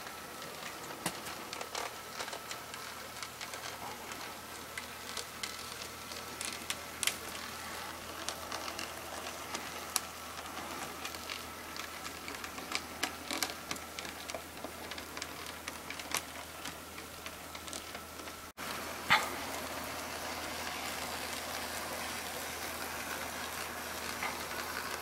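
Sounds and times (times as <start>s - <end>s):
faint motor whine: 0.0s - 25.0s
model train wheels clicking: 0.0s - 25.0s.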